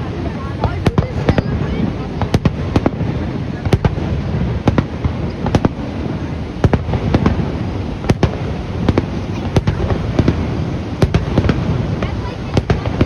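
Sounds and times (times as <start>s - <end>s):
fireworks bangs: 0.0s - 13.0s
low rumble of fireworks bursts: 0.0s - 13.0s.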